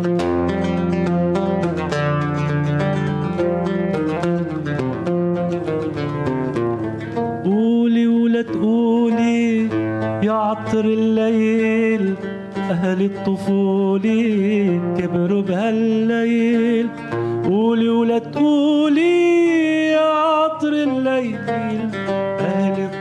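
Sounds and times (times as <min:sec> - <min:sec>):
oud plucked notes: 0:00.0 - 0:23.0.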